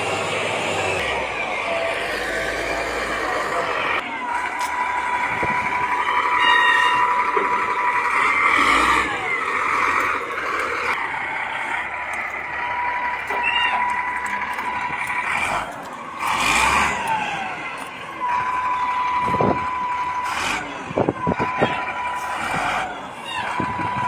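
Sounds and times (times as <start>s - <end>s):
diesel engine whining: 0.0s - 24.0s.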